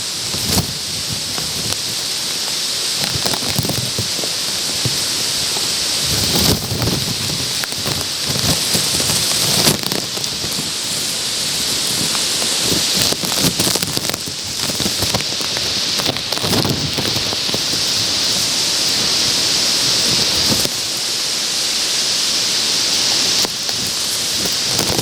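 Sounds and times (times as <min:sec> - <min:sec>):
wind buffeting microphone: 0:00.0 - 0:20.8
rain hissing on plastic sheet: 0:00.0 - 0:25.0.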